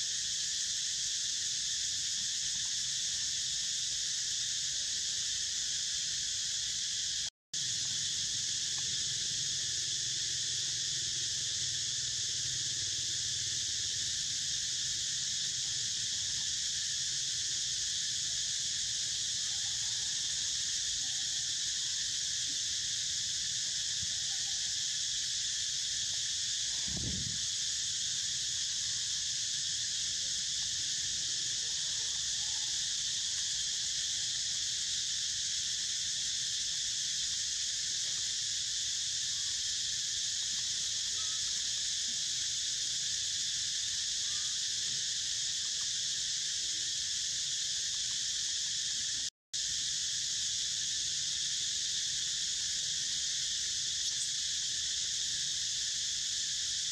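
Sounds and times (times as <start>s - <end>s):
insects buzzing: 0.0s - 56.9s.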